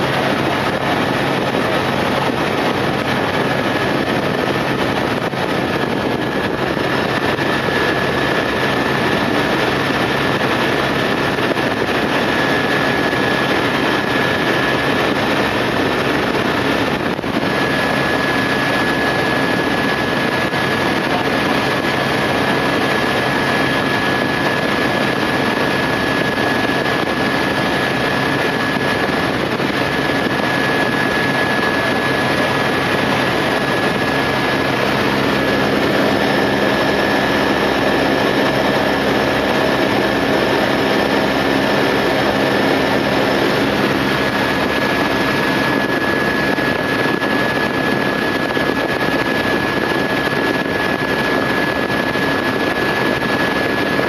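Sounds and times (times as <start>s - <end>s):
helicopter engine and rotor noise: 0.0s - 54.0s.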